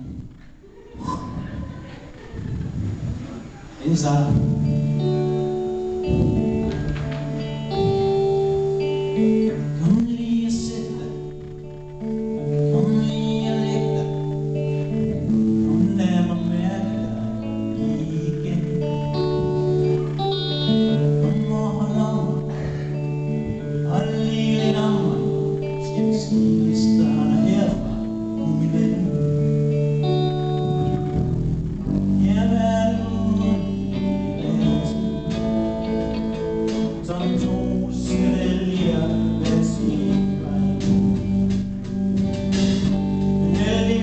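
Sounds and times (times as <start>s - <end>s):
bass guitar: 0.0s - 44.0s
drum kit: 0.0s - 44.0s
electric guitar melody: 3.8s - 44.0s.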